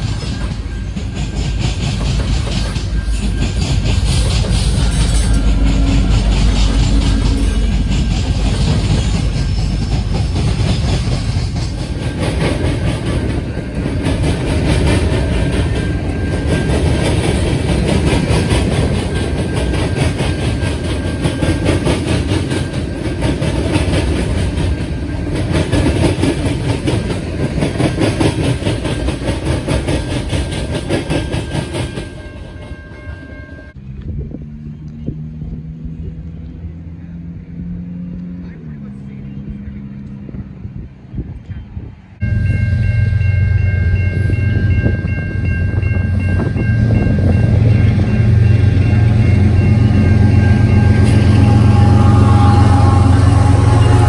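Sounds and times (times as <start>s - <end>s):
freight cars rolling past: 0.0s - 54.0s.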